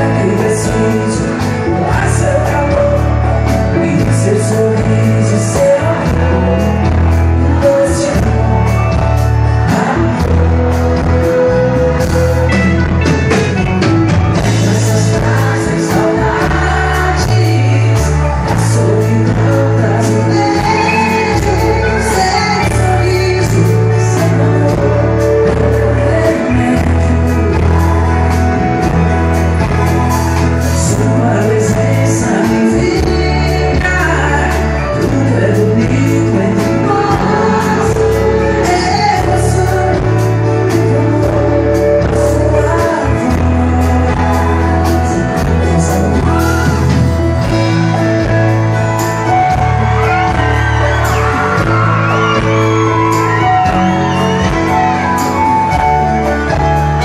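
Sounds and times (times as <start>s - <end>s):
man singing into a microphone: 0.0s - 13.4s, 14.2s - 29.8s, 30.4s - 57.0s
acoustic guitar: 0.0s - 57.0s
held bass notes: 0.0s - 57.0s.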